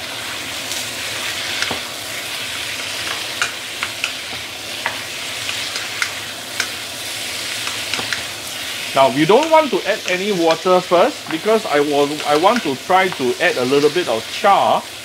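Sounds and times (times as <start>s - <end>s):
chicken sizzling in oil: 0.0s - 15.0s
oil ticking and popping: 0.7s - 13.4s.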